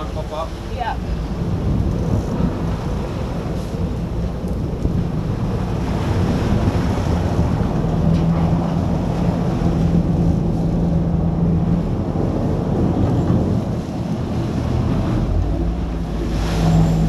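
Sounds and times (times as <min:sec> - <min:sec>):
boat engines humming: 0:00.0 - 0:17.0
boat wake rushing: 0:00.0 - 0:17.0
wind buffeting microphone: 0:00.0 - 0:17.0.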